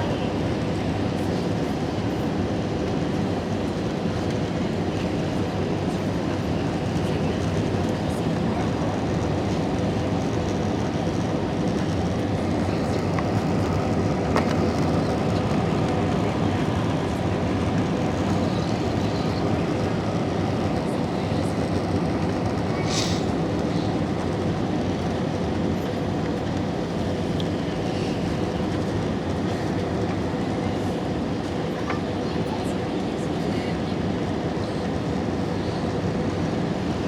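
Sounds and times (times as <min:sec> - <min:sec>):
airliner cabin rumble: 0:02.6 - 0:37.0.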